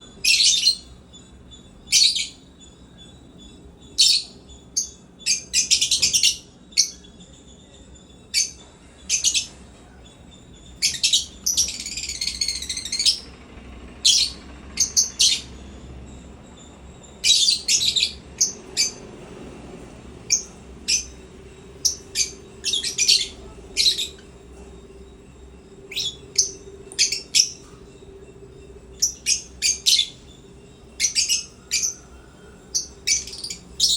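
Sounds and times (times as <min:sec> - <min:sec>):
lovebirds chirping: 0:00.0 - 0:33.9
warbling bird chatter: 0:00.0 - 0:33.9.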